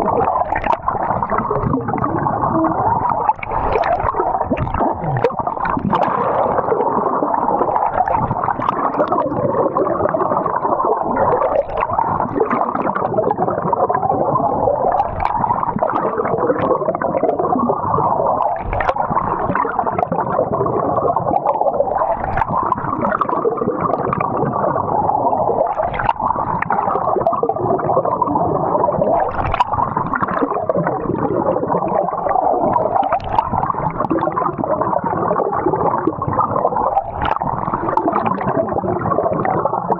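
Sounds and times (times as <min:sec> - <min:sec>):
water gurgling and sloshing: 0:00.0 - 0:39.9.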